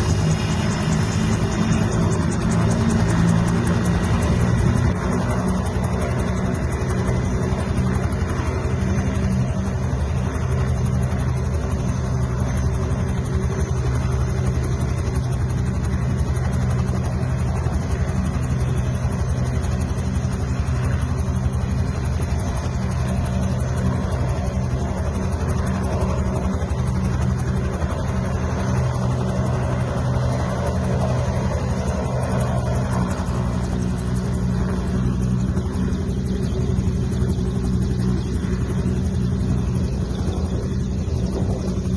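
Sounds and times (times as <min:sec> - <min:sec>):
helicopter turbine and rotors running: 0:00.0 - 0:41.9.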